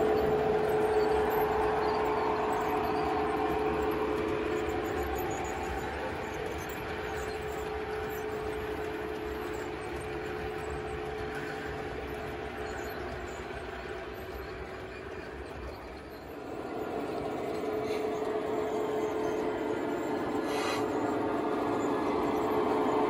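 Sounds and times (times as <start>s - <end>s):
model train wheels rumbling on rail: 0.0s - 23.0s
steady hum: 0.0s - 23.0s.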